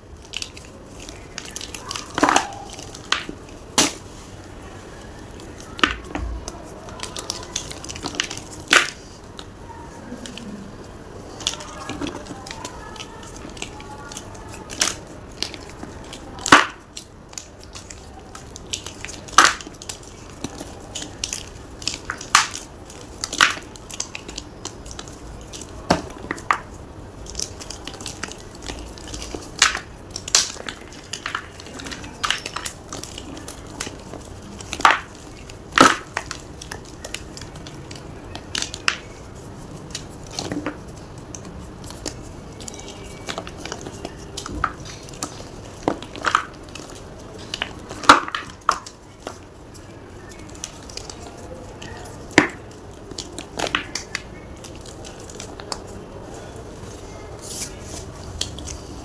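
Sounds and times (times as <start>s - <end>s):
chalk block crunching: 0.0s - 59.0s.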